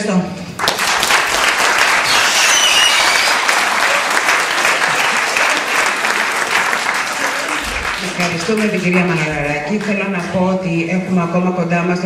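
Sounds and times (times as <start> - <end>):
audience applauding: 0.6 - 10.4.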